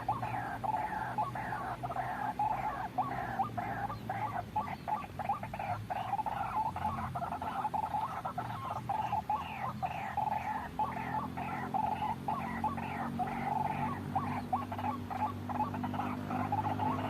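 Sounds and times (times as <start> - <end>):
waterhen croaking calls: 0.0 - 17.0.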